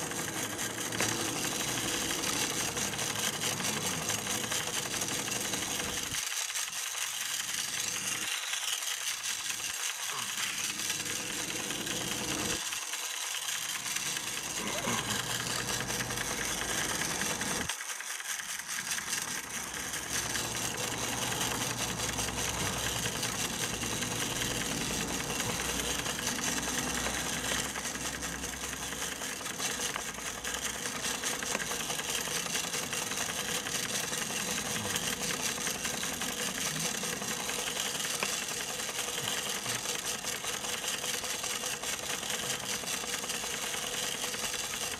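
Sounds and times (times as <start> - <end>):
toy steam engine clatter: 0.0 - 44.9.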